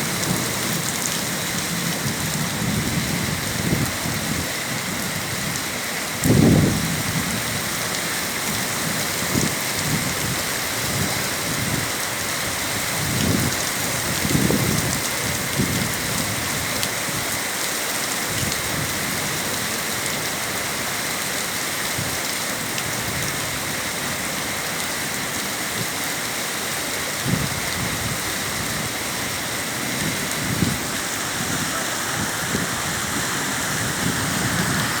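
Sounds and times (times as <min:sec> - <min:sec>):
heavy rain hissing: 0:00.0 - 0:35.0.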